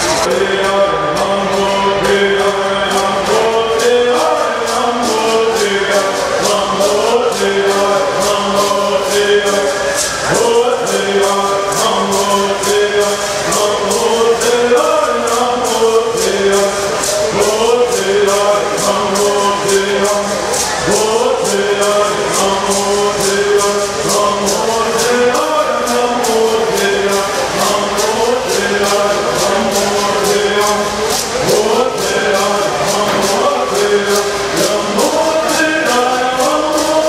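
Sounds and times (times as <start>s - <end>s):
gourd rattles shaking: 0.0s - 37.0s
men singing in unison: 0.1s - 37.0s.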